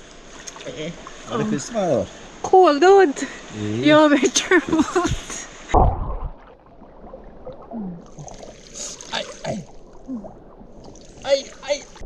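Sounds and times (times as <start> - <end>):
river water sloshing and gurgling: 0.0 - 12.0.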